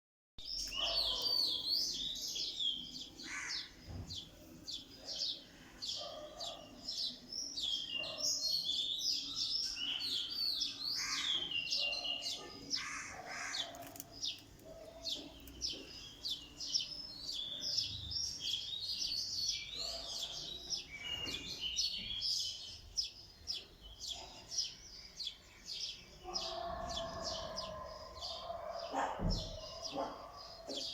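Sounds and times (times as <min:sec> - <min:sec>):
small birds chirping: 0:00.4 - 0:30.9.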